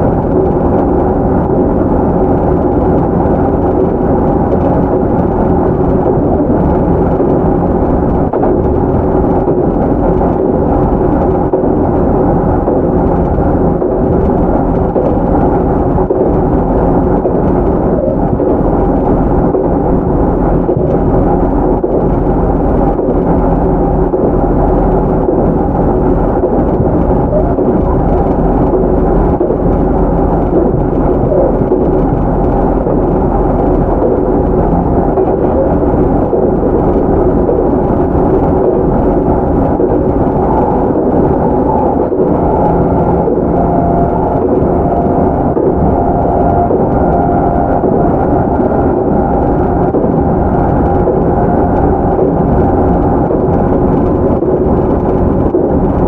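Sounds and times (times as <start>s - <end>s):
faint steady hum: 0.0s - 56.0s
train wheels rumbling: 0.0s - 56.0s.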